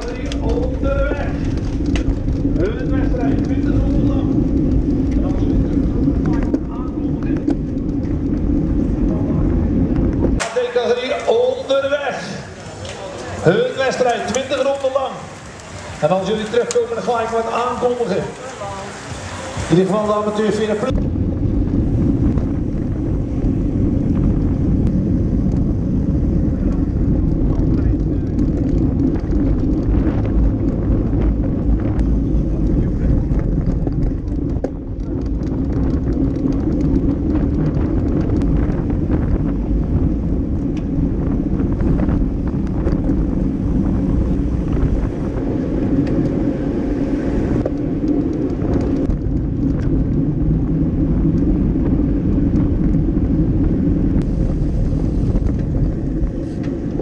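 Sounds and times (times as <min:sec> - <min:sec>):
road rumble: 0:00.0 - 0:57.0
wind rushing: 0:00.0 - 0:57.0.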